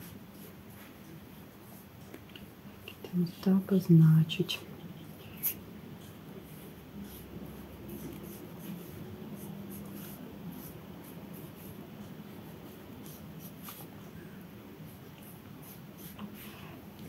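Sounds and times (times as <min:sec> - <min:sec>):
paintbrush scratching on paper: 0:00.0 - 0:02.5, 0:04.6 - 0:17.0
low steady hum: 0:00.0 - 0:17.0.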